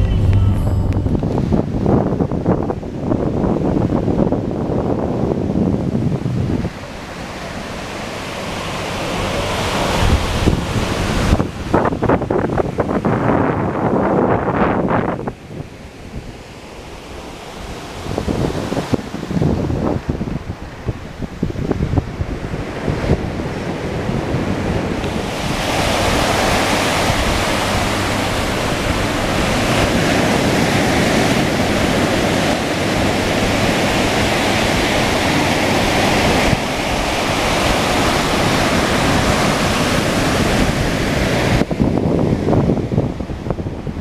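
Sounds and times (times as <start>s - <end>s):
rough surf breaking: 0.0s - 44.0s
wind buffeting microphone: 0.0s - 44.0s.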